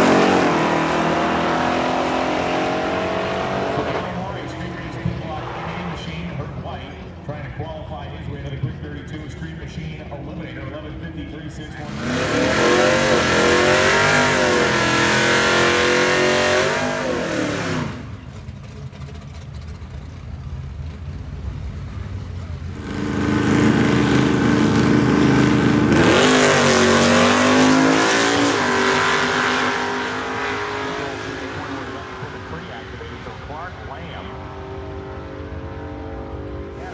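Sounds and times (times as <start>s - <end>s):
car engines accelerating hard: 0.0s - 36.9s.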